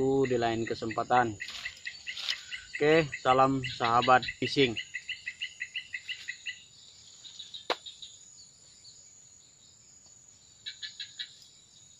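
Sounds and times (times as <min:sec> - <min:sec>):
quick repeated insect chirps: 0:00.0 - 0:11.9.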